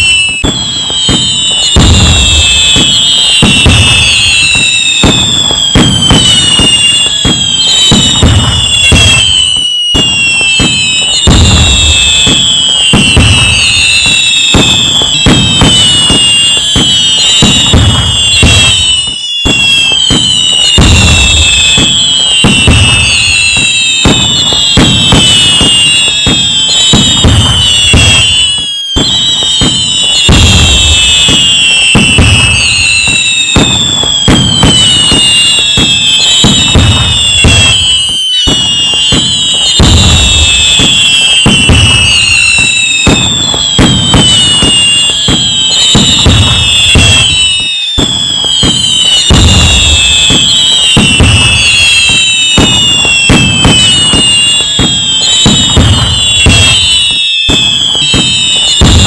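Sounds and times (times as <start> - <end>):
fireworks bangs and crackling: 0.0 - 59.0
fireworks whistles sliding down: 0.0 - 59.0.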